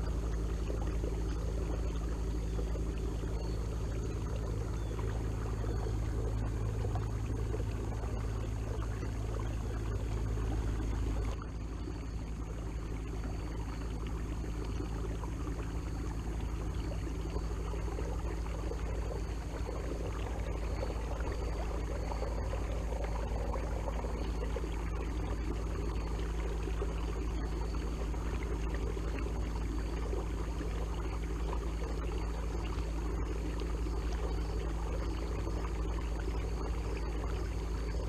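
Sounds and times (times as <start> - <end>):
water rushing along hull: 0.0 - 38.0.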